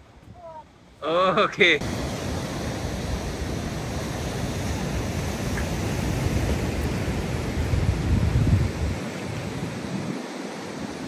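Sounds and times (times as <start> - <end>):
waves breaking on shore: 0.0 - 11.0
wind buffeting microphone: 1.8 - 11.0.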